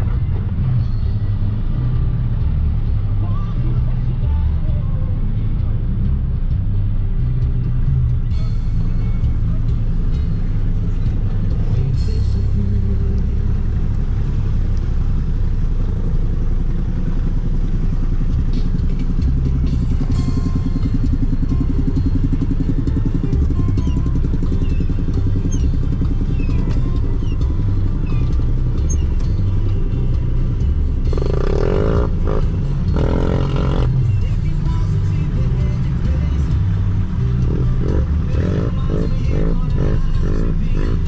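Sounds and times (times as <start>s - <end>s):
off-road vehicle engine rumbling: 0.0s - 41.0s.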